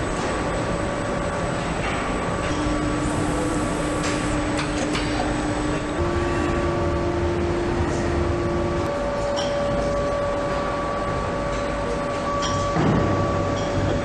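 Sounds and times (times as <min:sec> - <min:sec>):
factory machinery hum: 0:00.0 - 0:14.0.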